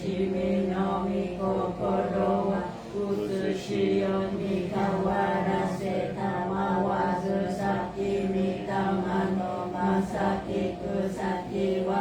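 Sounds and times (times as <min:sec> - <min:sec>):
voices chanting prayer together: 0:00.0 - 0:12.0.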